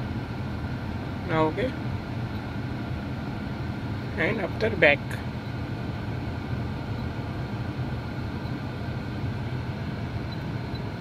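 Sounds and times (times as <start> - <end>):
car cabin low hum: 0.0 - 11.0.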